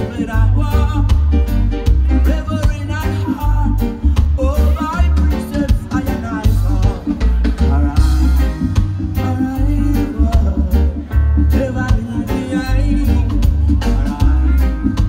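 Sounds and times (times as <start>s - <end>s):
heavy bass line: 0.0s - 15.0s
reggae band playing: 0.0s - 15.0s.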